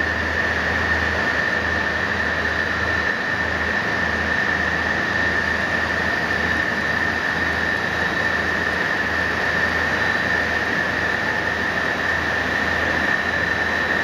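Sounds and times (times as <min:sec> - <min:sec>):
machine high whine: 0:00.0 - 0:14.0.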